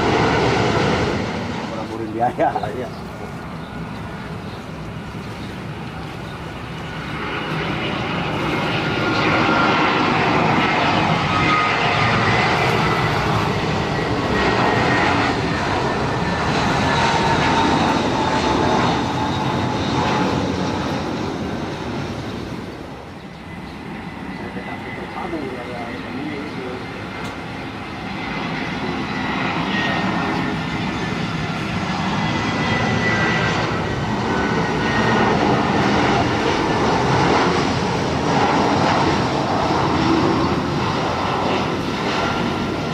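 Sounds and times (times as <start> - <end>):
jet airliner engines whining: 0.0 - 42.9.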